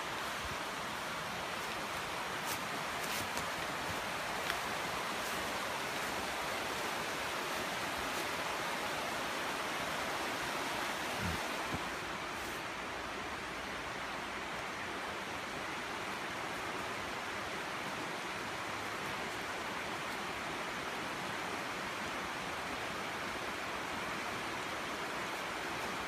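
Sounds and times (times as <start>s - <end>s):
fast-flowing river rushing: 0.0s - 26.0s.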